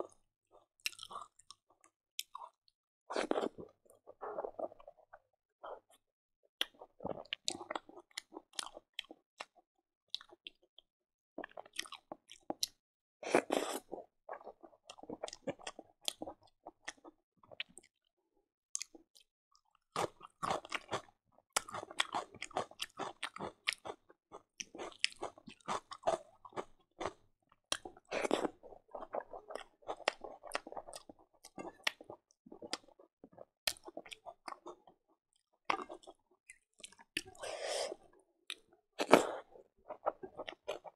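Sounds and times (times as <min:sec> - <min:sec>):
chewing with crisp crunches: 0:00.0 - 0:06.0, 0:06.6 - 0:10.8, 0:11.4 - 0:17.9, 0:18.8 - 0:40.9.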